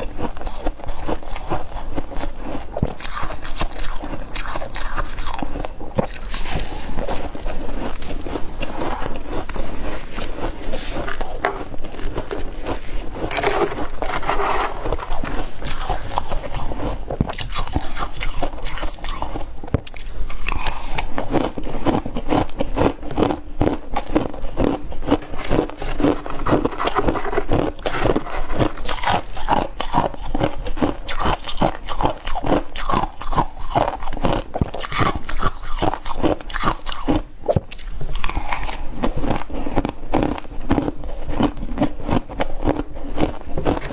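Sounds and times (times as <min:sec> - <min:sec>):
crunchy ice chewing: 0:00.0 - 0:43.9.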